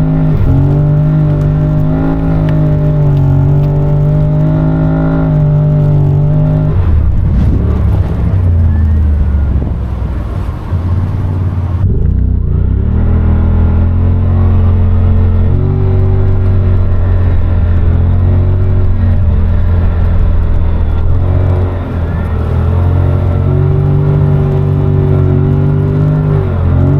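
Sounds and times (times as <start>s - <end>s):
utility vehicle engine running: 0.0s - 26.9s.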